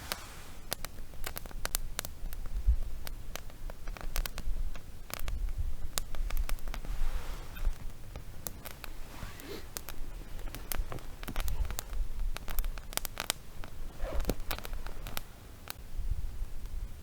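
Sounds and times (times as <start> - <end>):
fire pops and snaps: 0.0 - 17.0
wood fire crackling: 0.0 - 17.0.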